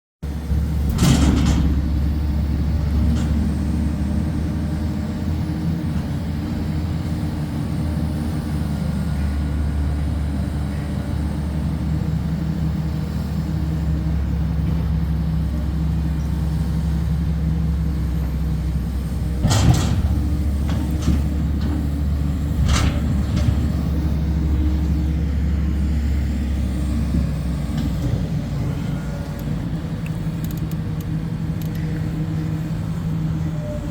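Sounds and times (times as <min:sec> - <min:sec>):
heavy diesel machinery droning: 0:00.2 - 0:33.9.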